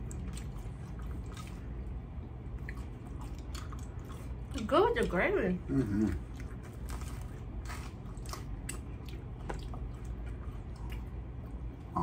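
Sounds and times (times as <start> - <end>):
people chewing crunchy chicken: 0.0 - 5.0, 5.6 - 12.0
faint low hum: 0.0 - 12.0.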